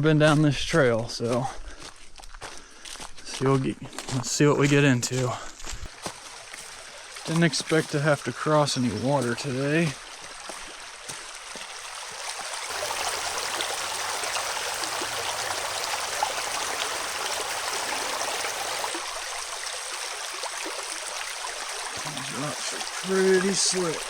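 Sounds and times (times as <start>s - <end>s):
creek water running over rocks: 1.2s - 24.0s.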